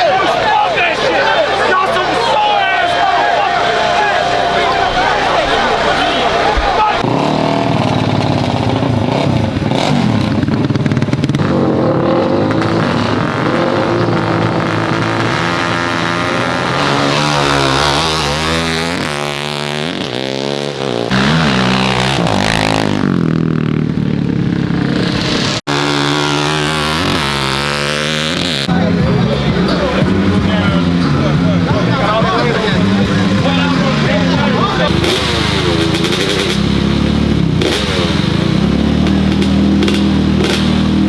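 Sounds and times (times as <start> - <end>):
atv and dirt bike engines revving: 0.0 - 41.0.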